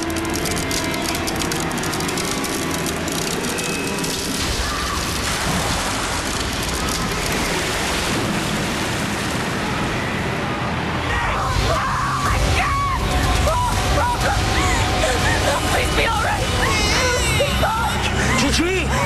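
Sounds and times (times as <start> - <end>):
churning water: 0.0 - 19.0.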